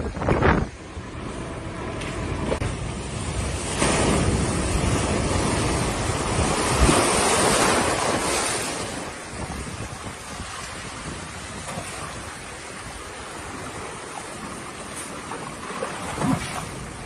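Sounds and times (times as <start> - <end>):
floodwater rushing: 0.8 - 17.0.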